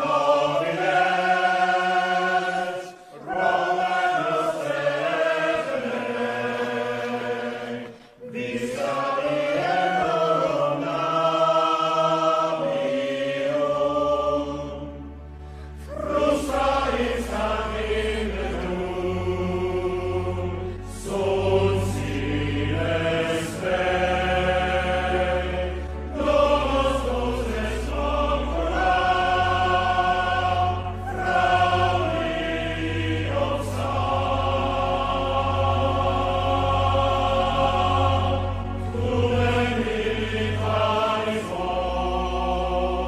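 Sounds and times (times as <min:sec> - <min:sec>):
choir chanting in long notes: 0:00.0 - 0:43.0.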